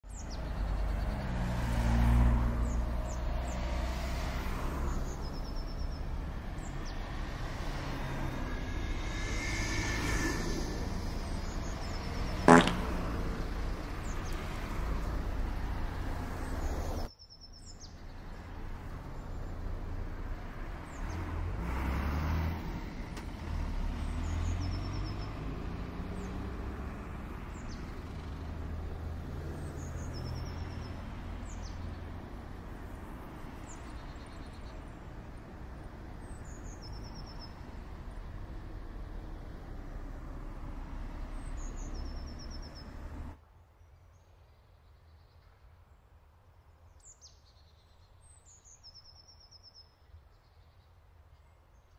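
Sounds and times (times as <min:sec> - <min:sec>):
birds chirping: 0:00.0 - 0:21.4, 0:22.1 - 0:46.0
traffic rumble: 0:00.0 - 0:49.0.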